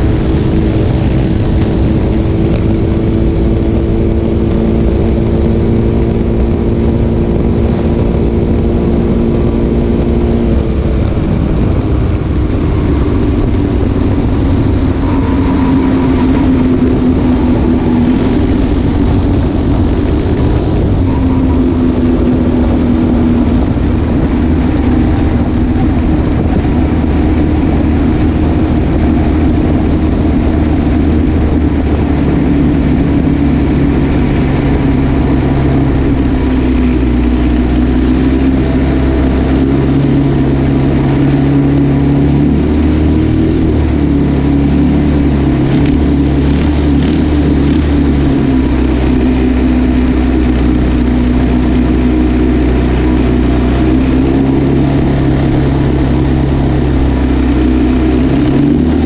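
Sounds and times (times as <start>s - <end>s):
single-cylinder engine running: 0.0s - 59.0s.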